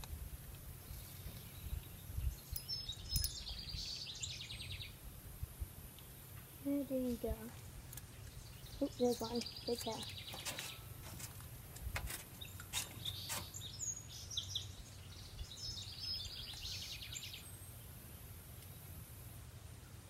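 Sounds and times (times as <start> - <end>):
birds trilling and chirping: 0.8 - 5.1, 6.0 - 18.9.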